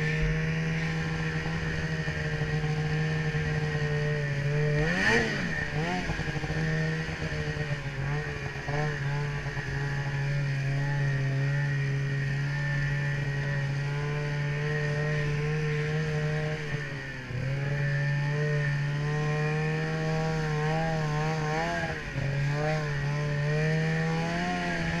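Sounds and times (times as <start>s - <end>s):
snowmobile engine droning: 0.0s - 25.0s.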